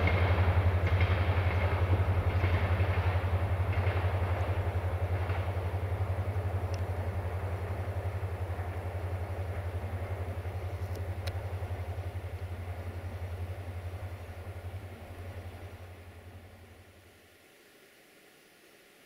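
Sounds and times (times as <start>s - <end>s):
diesel train engine throbbing: 0.0s - 17.2s.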